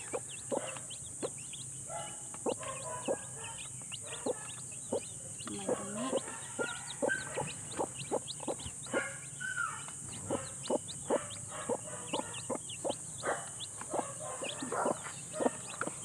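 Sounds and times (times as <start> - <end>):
chicks peeping: 0.0 - 16.0
hen clucking: 0.0 - 16.0.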